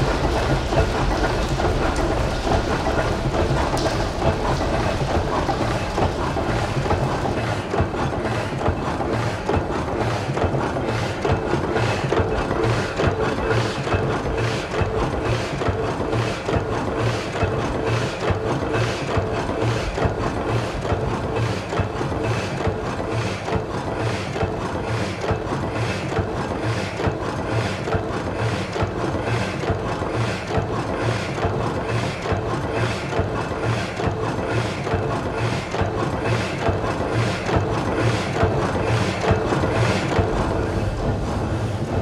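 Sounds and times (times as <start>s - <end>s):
looped machinery clatter music: 0.0s - 42.0s.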